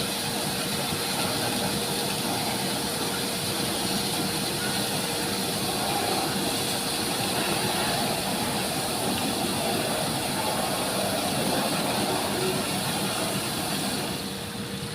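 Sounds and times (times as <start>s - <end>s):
steady hum: 0.0s - 14.9s
constant hiss: 0.2s - 14.9s.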